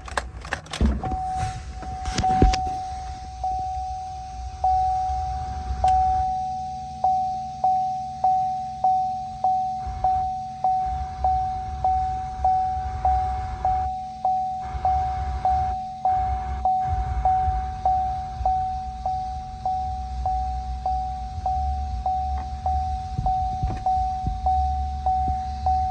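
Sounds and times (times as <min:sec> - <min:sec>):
low rumble: 0:00.0 - 0:07.2, 0:09.8 - 0:14.0, 0:14.6 - 0:25.9
electronic warning chime dinging: 0:01.1 - 0:25.9.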